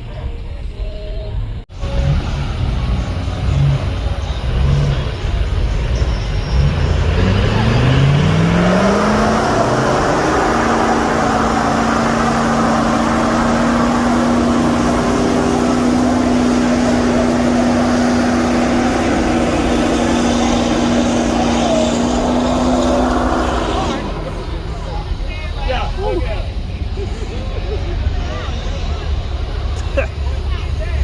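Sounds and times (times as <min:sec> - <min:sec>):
vehicle engine revving: 0:01.7 - 0:31.0.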